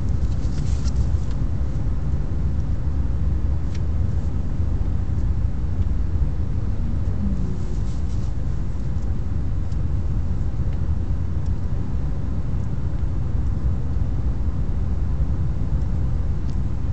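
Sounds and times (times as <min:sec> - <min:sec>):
low road rumble in car: 0:00.0 - 0:16.9.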